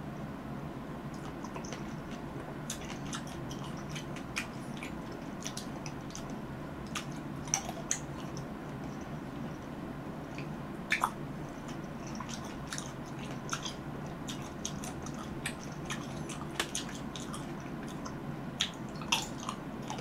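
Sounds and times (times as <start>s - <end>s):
chewing cherries wet clicks: 1.1s - 9.7s, 10.3s - 20.0s.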